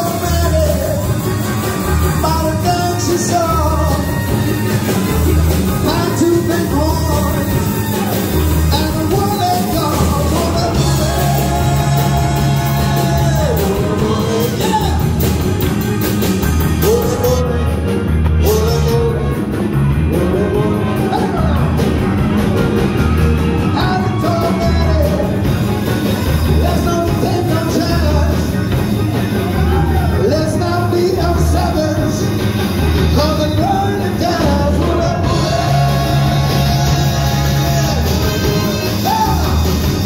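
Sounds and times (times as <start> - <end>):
big band dance music: 0.0 - 40.0.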